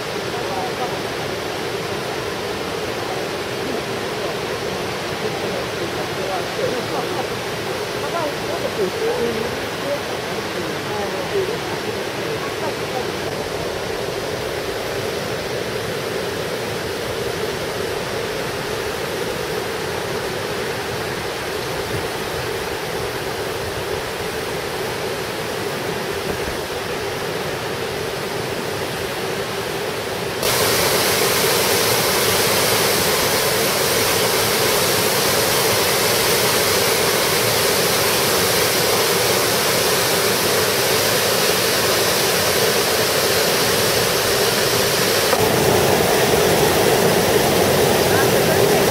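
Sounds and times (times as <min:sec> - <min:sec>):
white water rushing over rocks: 0:00.0 - 0:48.9.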